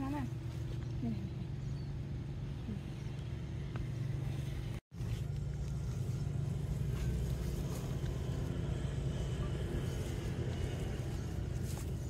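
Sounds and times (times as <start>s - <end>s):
low motor rumble: 0.0s - 12.0s.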